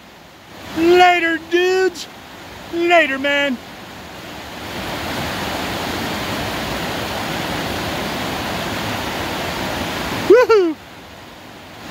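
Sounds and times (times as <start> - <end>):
river rushing: 0.0 - 11.9.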